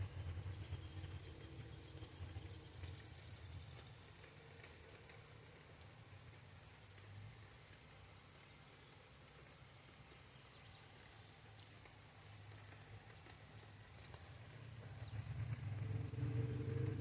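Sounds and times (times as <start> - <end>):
faint ticks: 0.1 - 17.0.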